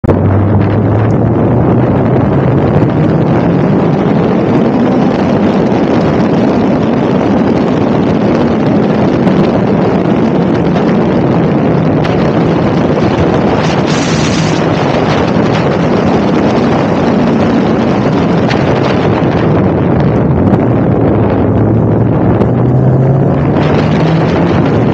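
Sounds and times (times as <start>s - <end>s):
car engine running: 0.0s - 24.9s
wind buffeting on microphone: 0.0s - 24.9s.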